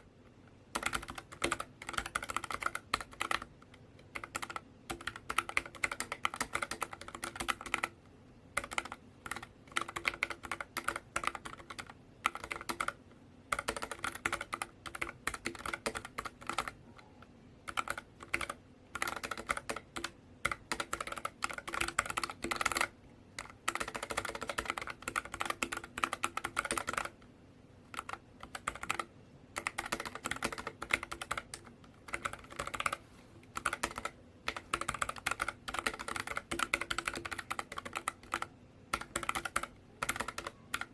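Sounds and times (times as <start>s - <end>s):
mechanical keyboard typing: 0.7s - 40.9s.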